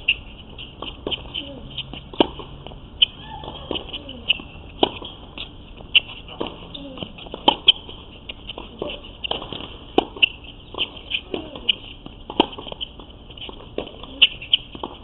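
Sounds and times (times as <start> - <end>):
racket hitting tennis ball: 0.0 - 15.0
tennis ball bouncing: 0.0 - 15.0.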